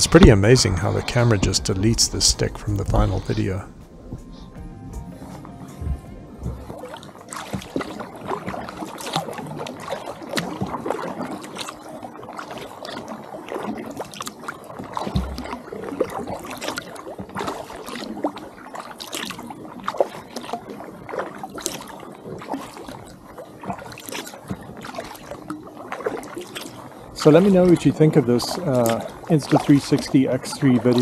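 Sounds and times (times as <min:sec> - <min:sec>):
paddle dipping into water: 0:00.0 - 0:31.0
water splashes and drips: 0:05.2 - 0:31.0.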